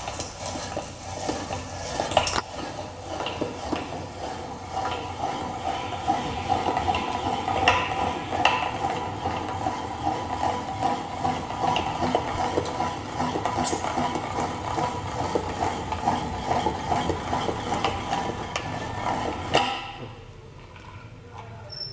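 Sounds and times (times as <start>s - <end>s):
manual meat grinder rattling: 0.0s - 20.2s.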